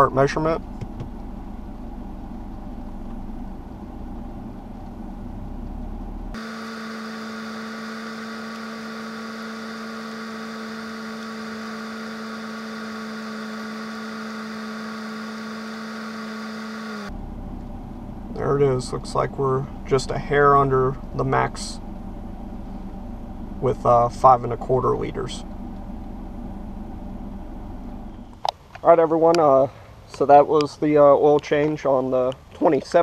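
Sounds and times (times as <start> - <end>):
car engine idling: 0.0 - 28.5.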